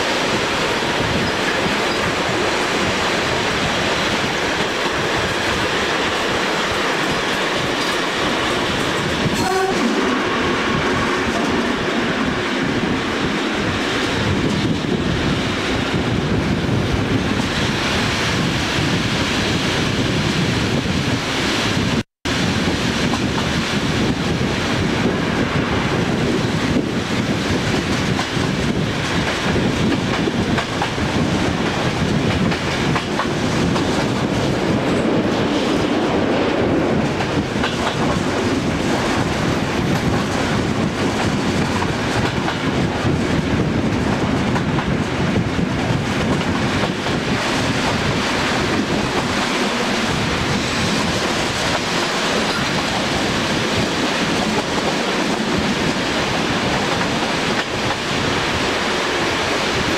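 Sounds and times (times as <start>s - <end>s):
train wheels rolling on track: 0.0s - 59.9s.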